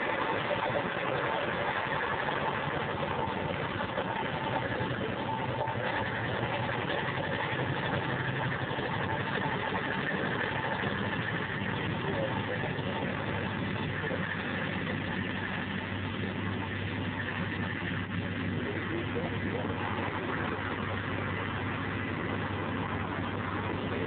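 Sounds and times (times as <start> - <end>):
diesel locomotive engine running: 0.0 - 24.0.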